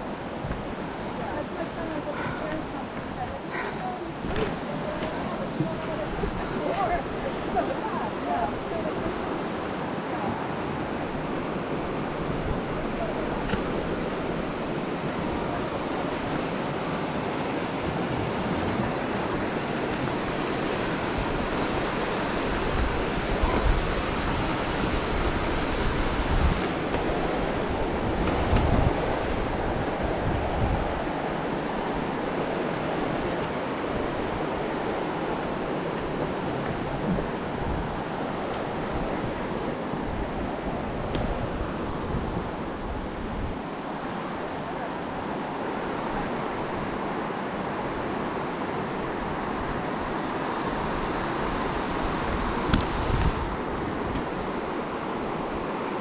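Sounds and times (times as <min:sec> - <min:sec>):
water rushing: 0:00.0 - 0:56.0
wind rumbling on microphone: 0:00.0 - 0:56.0.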